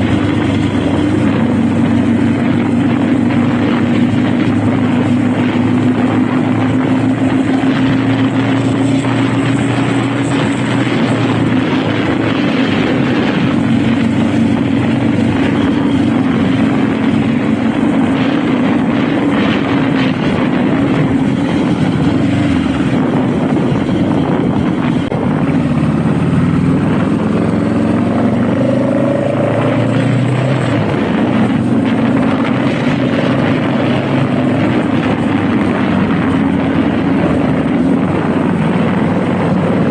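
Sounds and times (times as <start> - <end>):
motorcycle engine running: 0.0 - 39.9
wind noise rushing: 0.0 - 39.9.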